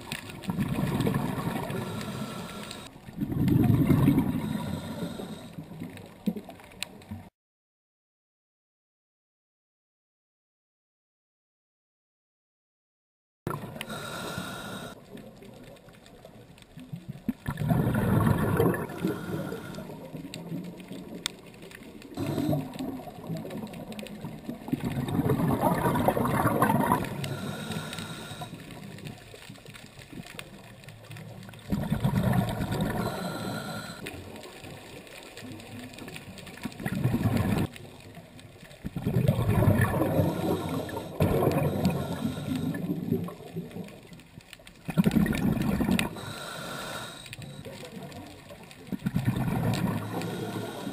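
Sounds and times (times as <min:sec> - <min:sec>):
exhaled bubbles gurgling underwater: 0:00.0 - 0:07.3, 0:13.5 - 0:50.9
water noise: 0:00.0 - 0:07.3, 0:13.5 - 0:50.9.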